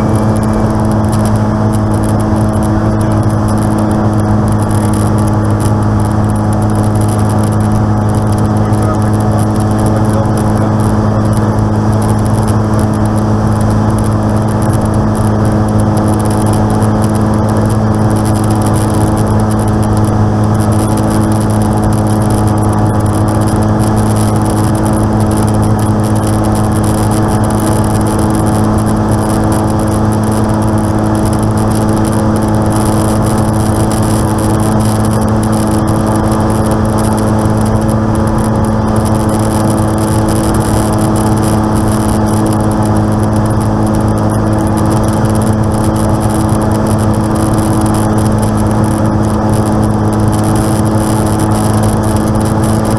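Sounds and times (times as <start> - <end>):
aircraft piston engine droning: 0.0 - 52.9.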